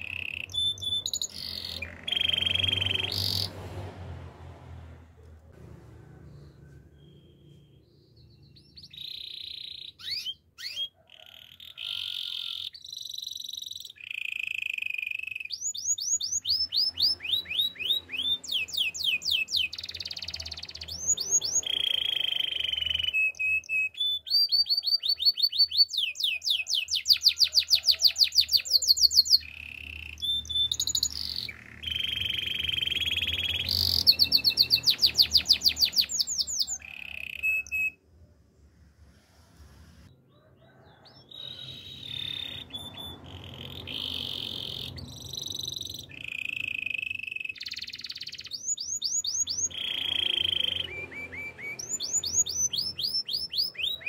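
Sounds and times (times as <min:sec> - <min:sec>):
canary singing: 0:00.0 - 0:03.8, 0:06.2 - 0:38.3, 0:39.6 - 0:54.0.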